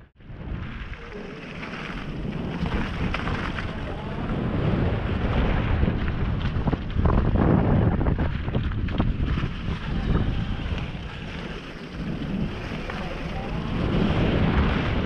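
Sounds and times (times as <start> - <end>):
bike rattling: 0.0 - 15.0
wind rumbling on microphone: 0.0 - 15.0.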